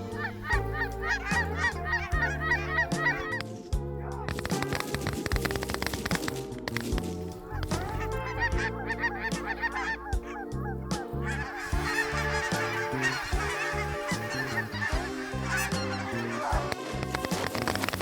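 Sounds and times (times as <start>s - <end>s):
background music: 0.0s - 18.0s
geese honking: 0.0s - 18.0s.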